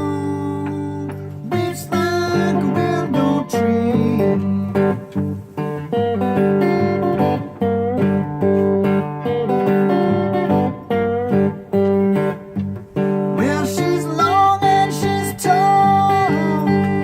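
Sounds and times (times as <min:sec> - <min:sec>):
blues guitar riff: 0:00.0 - 0:17.0.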